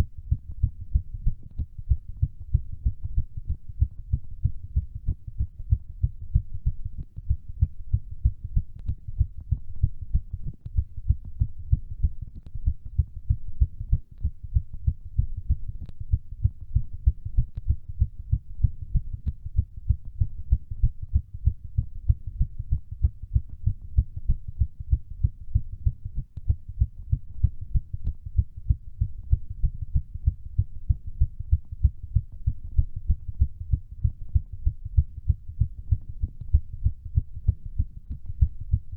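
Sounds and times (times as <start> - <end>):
fast heartbeat thumps: 0.0 - 38.9.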